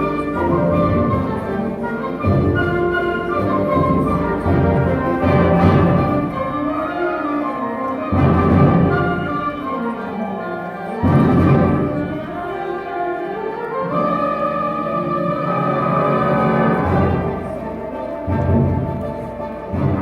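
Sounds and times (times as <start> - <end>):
concert band playing: 0.0 - 20.0.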